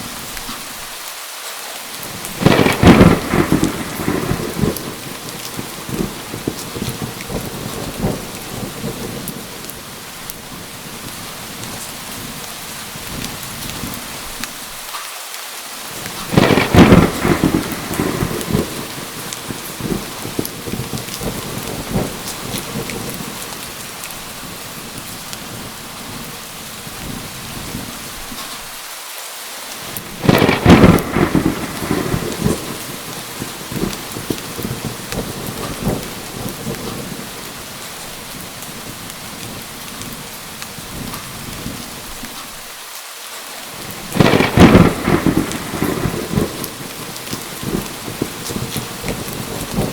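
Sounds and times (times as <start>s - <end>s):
heavy rain: 0.0s - 49.9s
thunderclaps: 2.0s - 14.1s, 16.0s - 28.6s, 29.9s - 42.5s, 43.8s - 49.9s.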